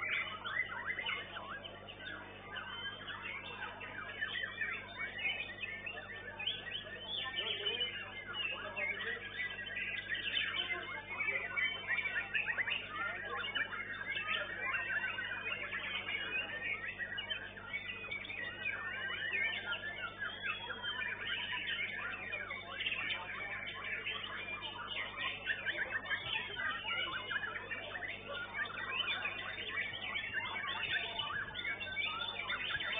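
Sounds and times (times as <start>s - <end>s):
birds whistling and trilling: 0.0s - 32.9s.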